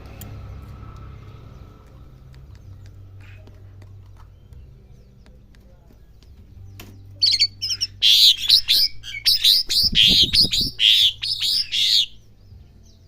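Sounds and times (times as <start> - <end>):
starling chattering song: 1.9 - 13.0.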